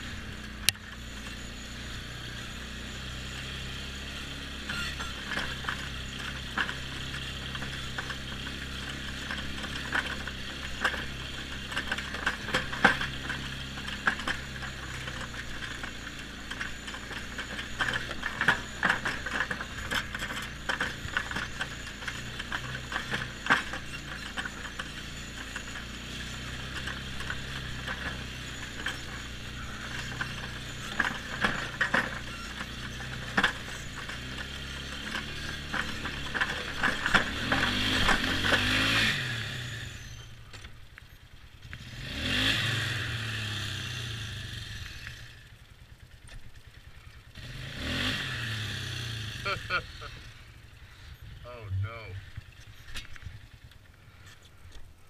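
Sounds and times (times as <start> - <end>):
atv engine running: 0.0 - 55.0
rattles clicks and squeaks: 0.0 - 55.0.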